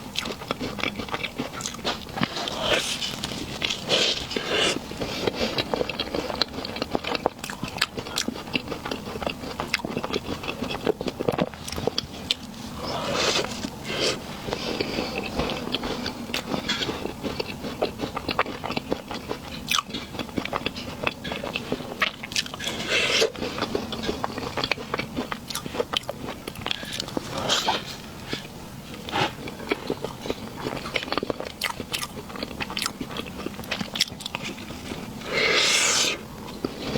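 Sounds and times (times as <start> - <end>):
biting and chewing: 0.0 - 36.9.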